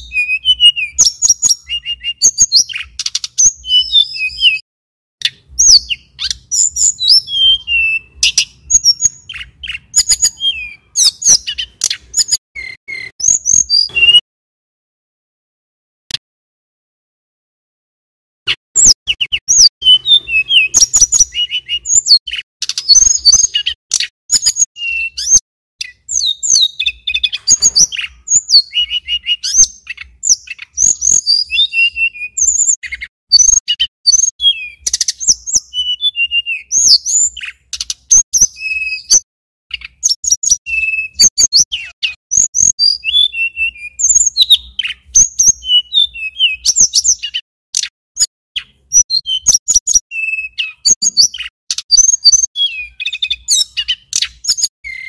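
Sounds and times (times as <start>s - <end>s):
songbird chirping and whistling: 0.0s - 4.6s, 5.2s - 14.2s, 18.5s - 55.0s.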